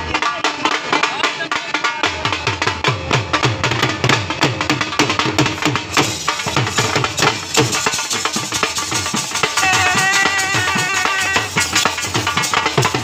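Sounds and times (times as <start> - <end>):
dhol drums beaten with sticks: 0.0 - 13.0.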